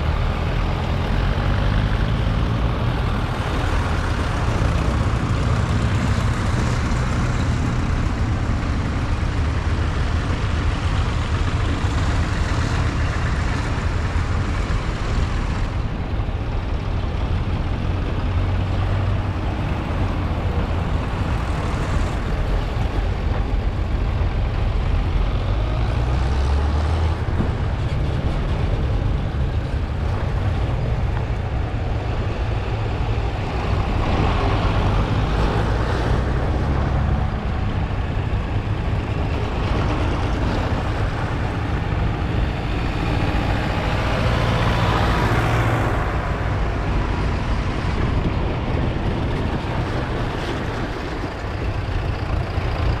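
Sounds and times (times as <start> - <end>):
tractor diesel engines passing: 0.0 - 53.0.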